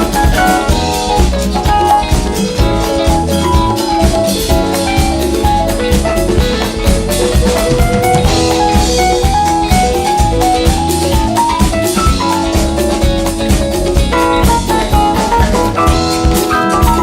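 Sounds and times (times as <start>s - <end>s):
drum kit and percussion: 0.0s - 17.0s
live jazz fusion band: 0.0s - 17.0s.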